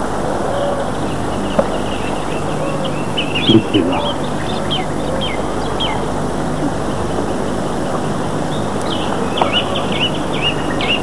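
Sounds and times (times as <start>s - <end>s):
steady hiss and low hum: 0.0s - 11.0s
small birds chirping: 0.9s - 11.0s.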